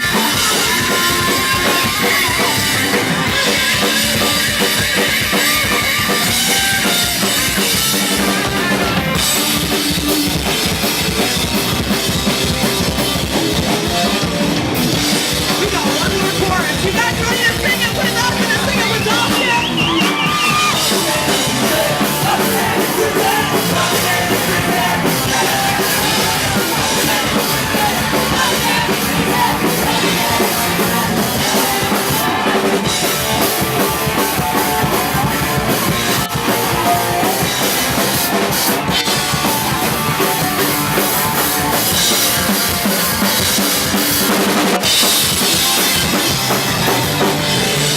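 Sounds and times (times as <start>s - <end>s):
rock band playing: 0.0s - 47.9s
wavering guitar lead line: 0.0s - 47.9s.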